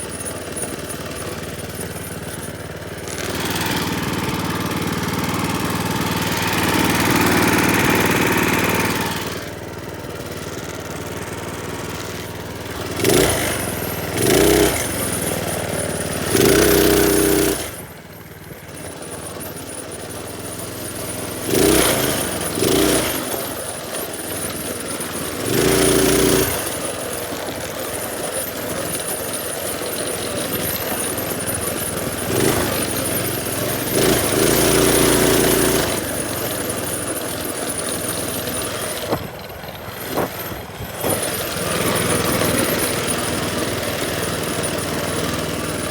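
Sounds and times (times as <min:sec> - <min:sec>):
small engine revving: 0:00.0 - 0:45.9.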